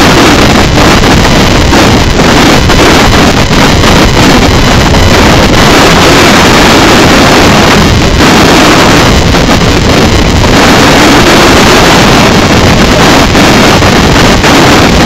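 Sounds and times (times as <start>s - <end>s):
wind rushing across microphone: 0.0s - 15.0s.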